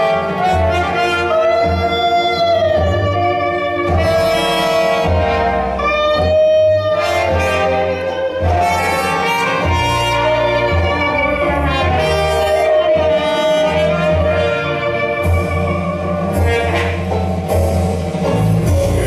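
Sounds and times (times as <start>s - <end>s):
horns playing held melody: 0.0s - 19.0s
moving bass line: 0.0s - 19.0s.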